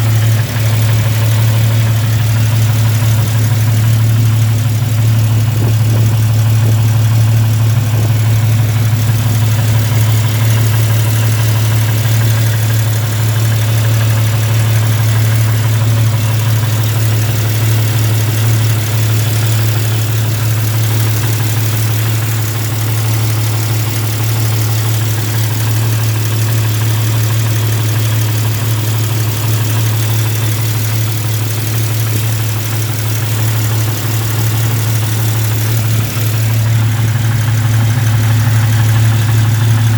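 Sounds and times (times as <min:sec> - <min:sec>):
car engine idling: 0:00.0 - 0:39.9
exhaust leak ticking: 0:00.0 - 0:39.9.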